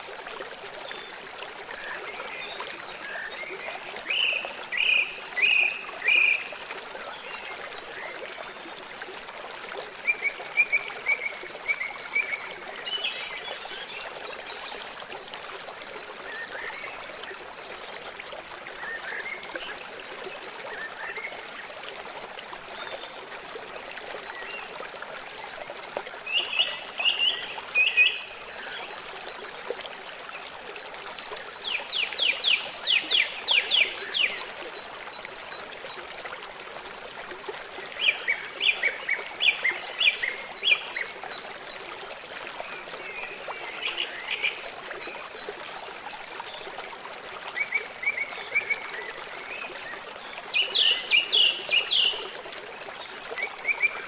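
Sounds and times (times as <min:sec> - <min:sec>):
small stream trickling: 0:00.0 - 0:54.0.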